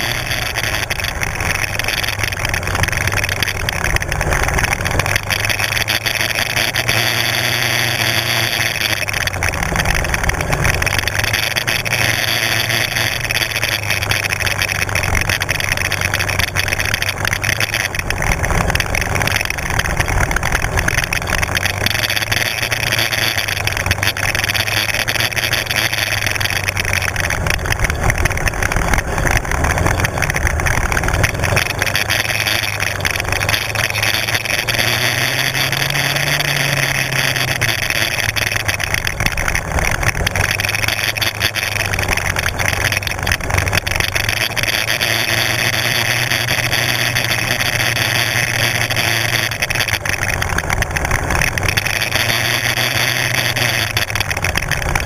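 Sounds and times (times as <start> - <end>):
quad engine running: 0.0 - 55.0.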